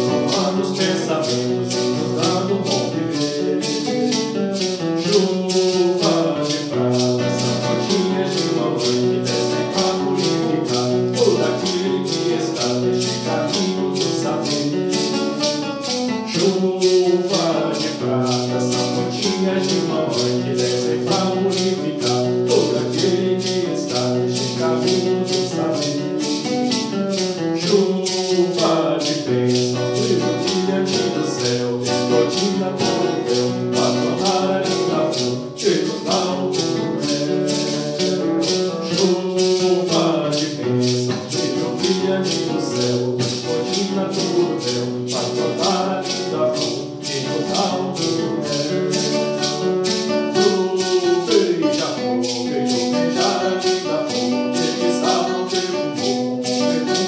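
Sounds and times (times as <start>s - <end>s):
acoustic guitar: 0.0s - 57.0s
hymn singing: 0.0s - 57.0s
maraca shaking: 0.0s - 57.0s.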